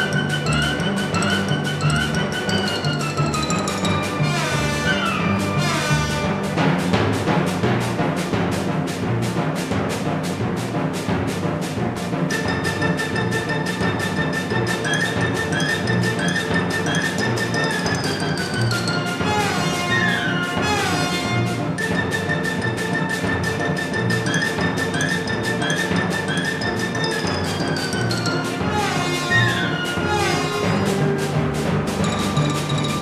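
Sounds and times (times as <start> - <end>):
background music with steady beat: 0.0 - 33.0.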